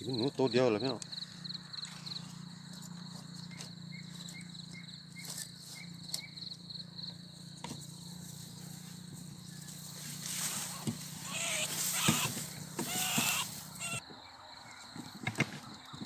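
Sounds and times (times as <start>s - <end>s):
crickets chirping: 0.0s - 15.9s.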